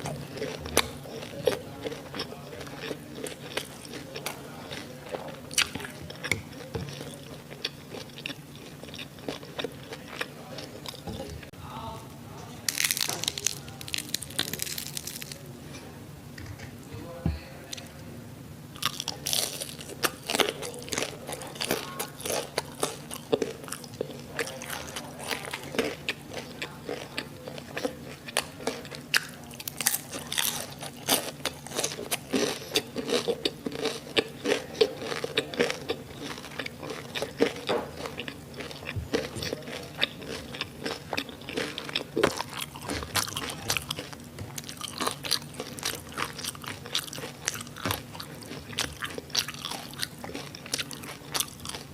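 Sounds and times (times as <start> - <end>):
crunchy chewing: 0.0 - 11.5, 12.6 - 15.5, 18.8 - 51.9.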